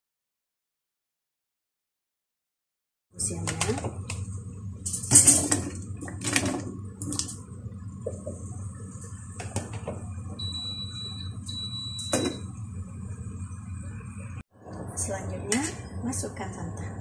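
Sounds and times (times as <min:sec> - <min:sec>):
gas stove hum and hiss: 0:03.2 - 0:17.0.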